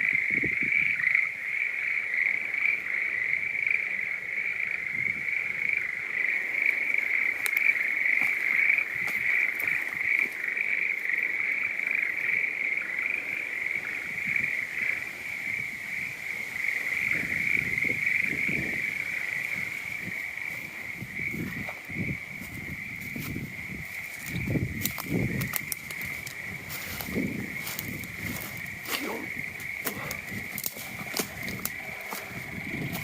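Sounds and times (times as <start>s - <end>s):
frogs calling: 0.0s - 33.0s.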